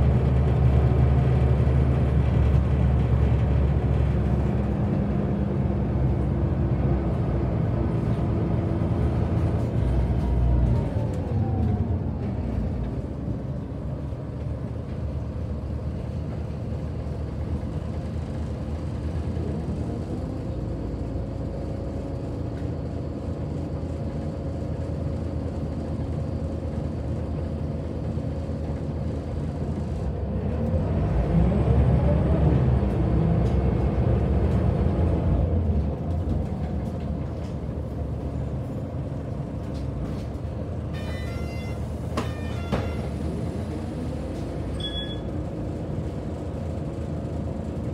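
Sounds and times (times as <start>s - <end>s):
bus diesel engine: 0.0s - 47.9s.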